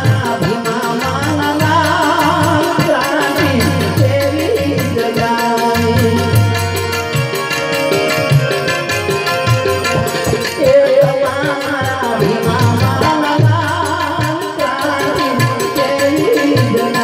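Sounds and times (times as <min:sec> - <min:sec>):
harmonium held notes: 0:00.0 - 0:17.0
man singing: 0:00.0 - 0:17.0
tabla strokes: 0:00.0 - 0:17.0.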